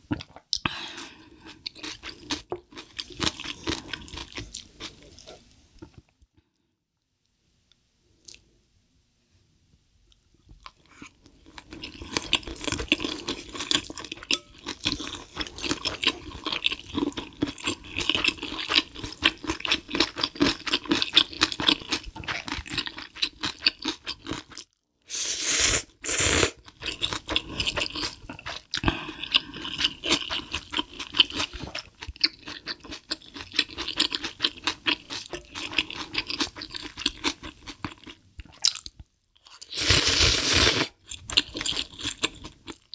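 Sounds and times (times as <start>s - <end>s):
person slurping and chewing noodles: 0.1s - 5.4s, 10.6s - 38.8s, 39.4s - 42.9s.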